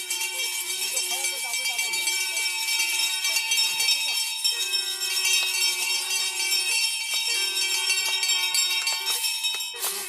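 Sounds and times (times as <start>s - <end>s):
bell ringing: 0.0s - 10.0s.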